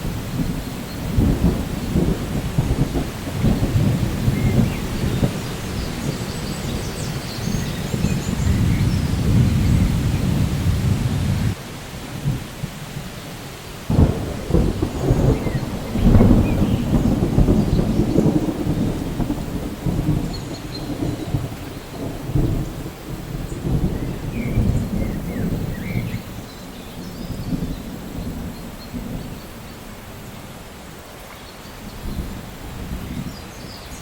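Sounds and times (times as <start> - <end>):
rolling thunder: 0.0 - 11.6, 13.9 - 30.3
steady rain: 0.0 - 34.0.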